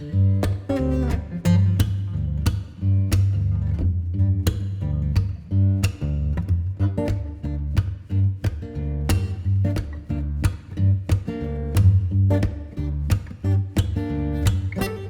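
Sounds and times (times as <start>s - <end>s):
plucked guitar notes: 0.0s - 15.0s
steady bass line: 0.0s - 15.0s.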